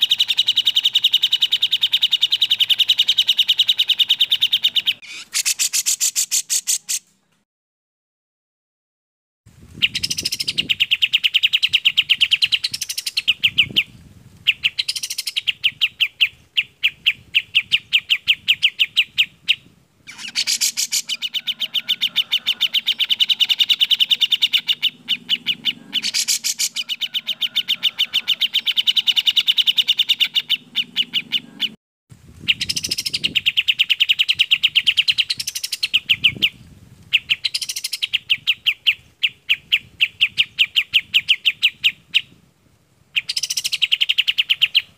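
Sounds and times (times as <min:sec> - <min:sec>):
songbird chattering song: 0:00.0 - 0:07.1, 0:09.8 - 0:31.8, 0:32.4 - 0:42.4, 0:43.1 - 0:44.9.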